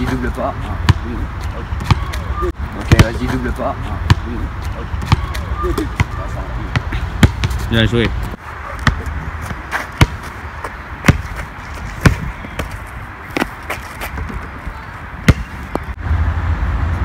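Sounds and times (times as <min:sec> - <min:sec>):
basketball bouncing on asphalt: 0:00.7 - 0:03.4, 0:04.0 - 0:16.0.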